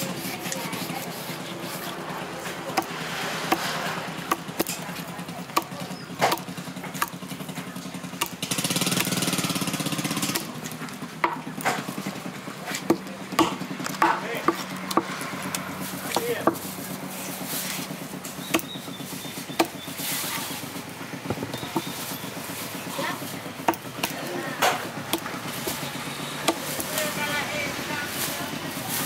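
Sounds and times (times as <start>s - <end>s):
small engine humming: 0.0s - 29.0s.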